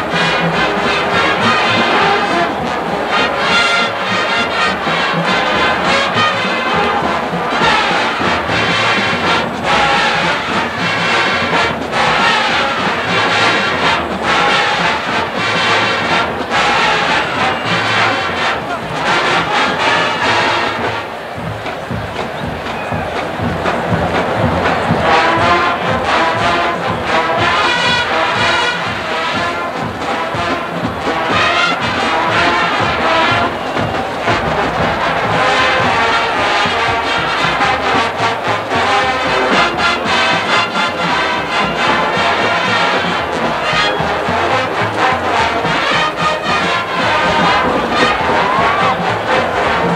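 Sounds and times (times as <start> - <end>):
brass band playing big band music: 0.0 - 49.9
steady drum beat: 0.0 - 49.9.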